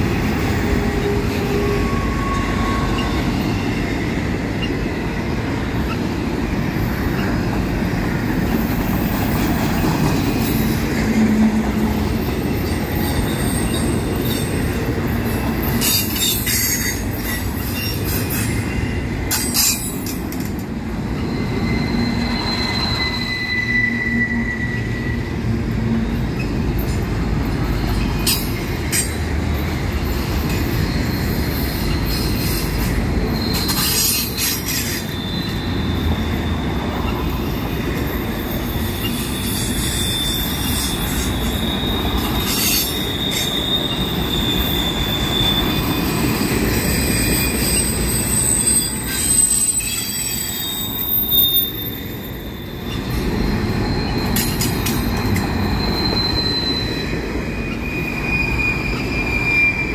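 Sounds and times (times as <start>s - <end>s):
train wheels rumbling on rail: 0.0s - 59.9s
high-pitched wheel squeals: 0.3s - 4.8s, 8.3s - 59.9s.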